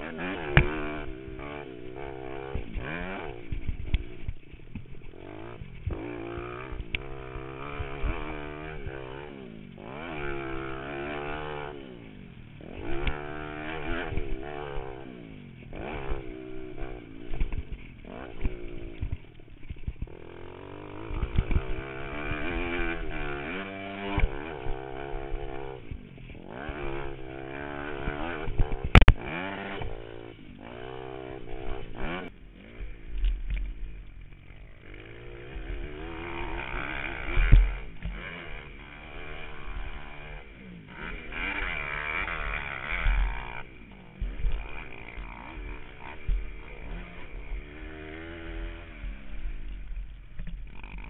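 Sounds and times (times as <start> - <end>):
low thuds over ruts: 0.0 - 51.0
pit bike engine revving: 0.0 - 51.0.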